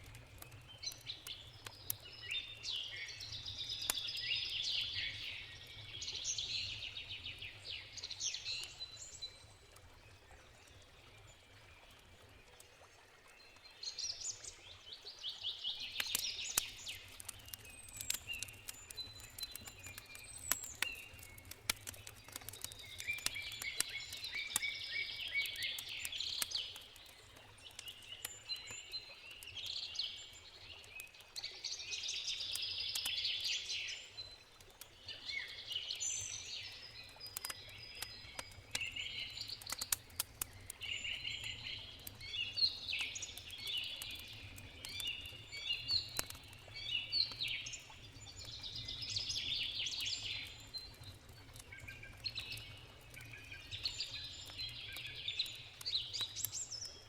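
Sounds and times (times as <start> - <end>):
campfire crackling: 0.0 - 13.0, 13.6 - 57.0
songbirds singing: 0.0 - 57.0.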